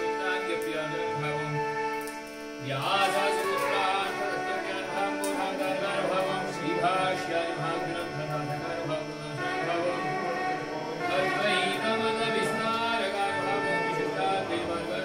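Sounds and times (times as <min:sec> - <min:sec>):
devotional music over drone: 0:00.0 - 0:15.0.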